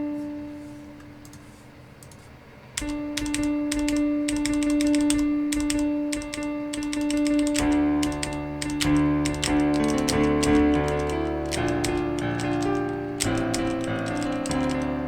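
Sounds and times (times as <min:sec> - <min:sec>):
piano notes: 0:00.0 - 0:15.0
computer keyboard keys clacking: 0:01.2 - 0:15.0.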